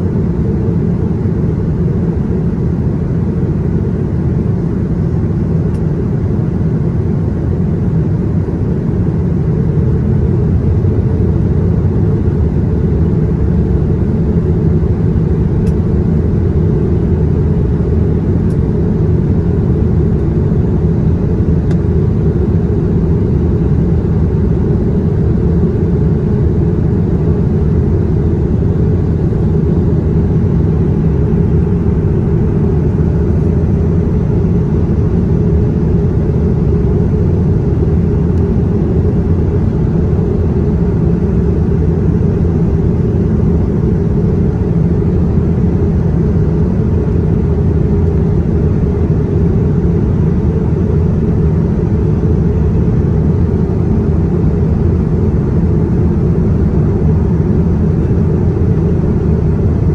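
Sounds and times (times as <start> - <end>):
jet engine and airflow drone: 0.0 - 59.9.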